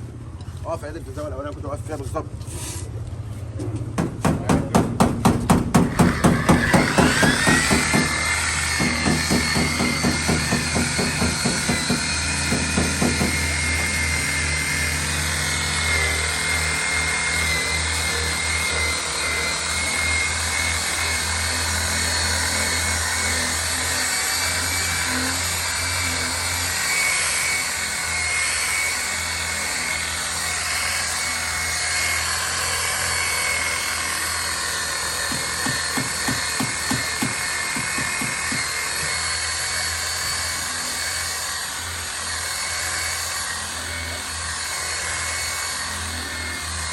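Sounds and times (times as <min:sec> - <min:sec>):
power tool whining: 0:04.0 - 0:46.9.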